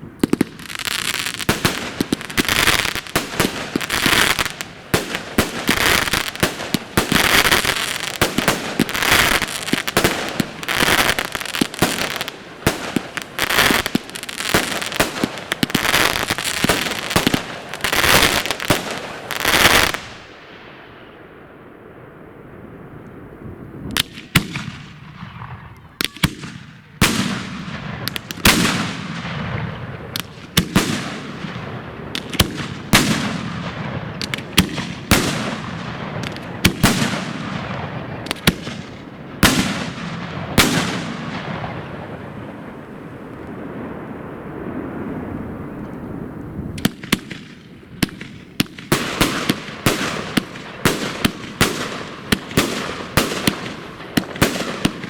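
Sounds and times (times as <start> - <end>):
rapid firework crackling: 0.0 - 20.3, 25.9 - 43.2, 46.7 - 55.0
fireworks bangs with hiss: 0.0 - 21.2, 23.8 - 55.0.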